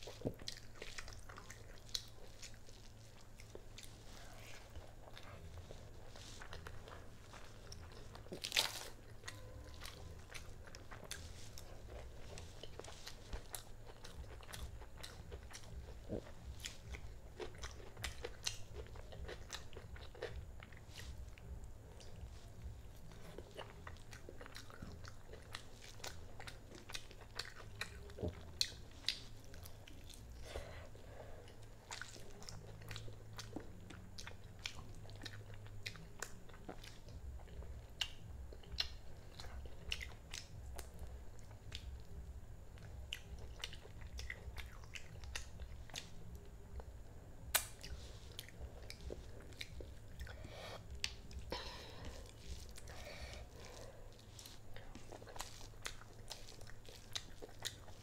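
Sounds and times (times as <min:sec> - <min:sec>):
faint low hum: 0:00.0 - 0:58.0
person chewing food: 0:00.0 - 0:58.0.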